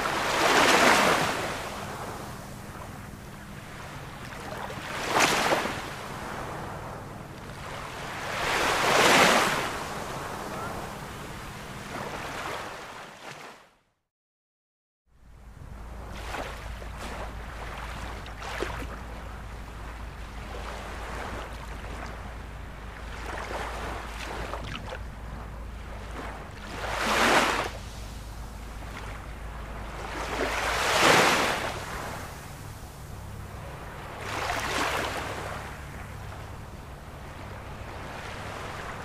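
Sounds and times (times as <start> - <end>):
sea waves breaking: 0.0 - 13.6, 15.4 - 39.0.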